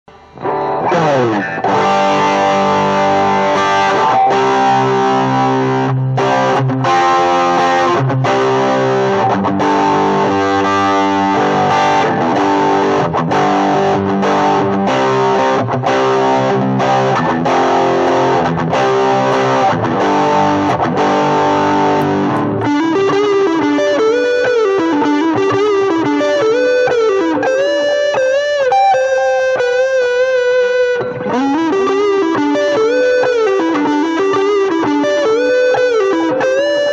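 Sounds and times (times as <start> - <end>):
distorted electric guitar: 0.0 - 36.9.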